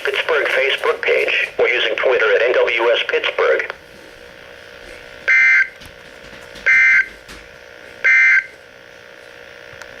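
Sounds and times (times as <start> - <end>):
radio hiss and hum: 0.0 - 10.0.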